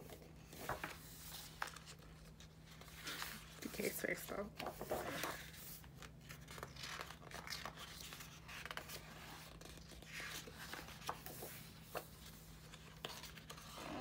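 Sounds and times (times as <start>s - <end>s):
glossy pages turning: 0.1s - 4.0s, 4.6s - 13.8s.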